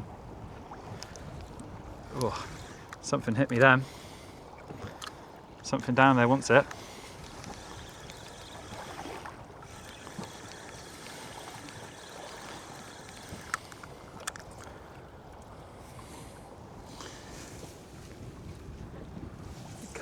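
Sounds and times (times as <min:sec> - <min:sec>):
water sloshing against boat hull: 0:00.0 - 0:20.0
wind: 0:00.0 - 0:20.0.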